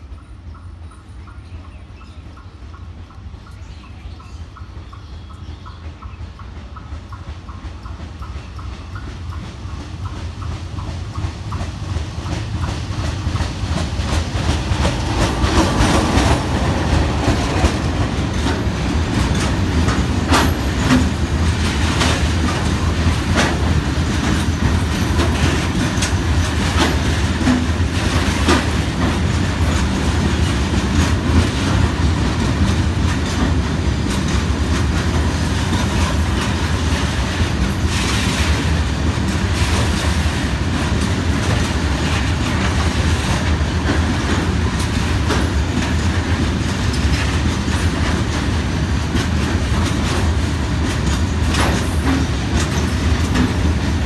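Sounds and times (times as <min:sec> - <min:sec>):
train rumbling: 0:00.0 - 0:54.0
wheels clacking over rail joints: 0:00.0 - 0:54.0.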